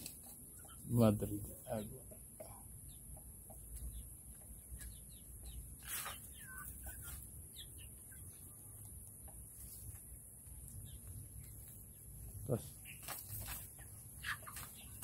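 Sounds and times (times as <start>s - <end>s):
chickens chirping: 0.0s - 15.0s.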